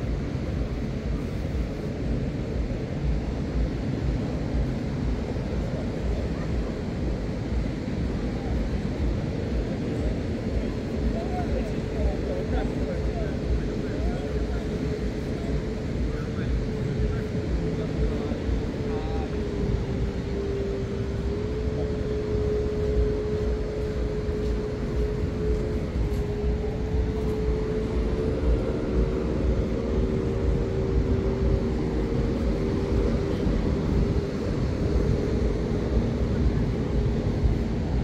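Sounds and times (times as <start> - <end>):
higher engine tone: 0.0 - 38.0
low rushing noise: 0.0 - 38.0
steady engine drone: 0.0 - 38.0.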